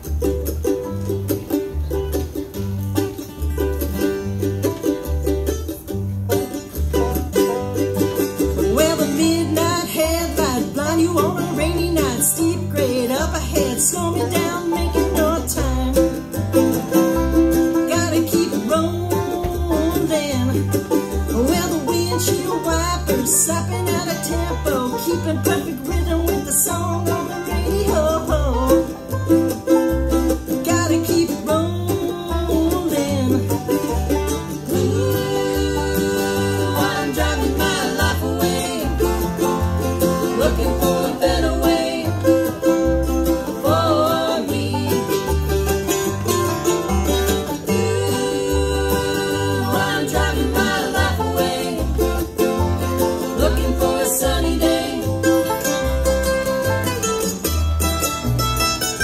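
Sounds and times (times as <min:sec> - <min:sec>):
acoustic guitar picking: 0:00.0 - 0:59.0
banjo: 0:00.0 - 0:59.0
mandolin: 0:00.0 - 0:59.0
upright bass plucking: 0:00.0 - 0:59.0.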